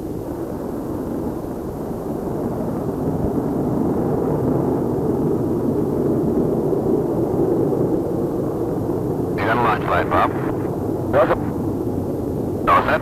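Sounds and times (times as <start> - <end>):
jet aircraft engine drone: 0.0 - 13.0.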